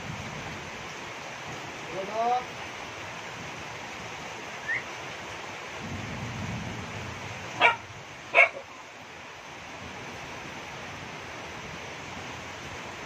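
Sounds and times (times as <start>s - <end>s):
heavy rain on water: 0.0s - 13.0s.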